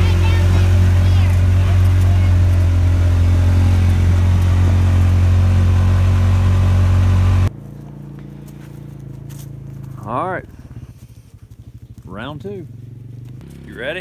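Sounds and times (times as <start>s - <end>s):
utility vehicle engine drone: 0.0s - 14.0s.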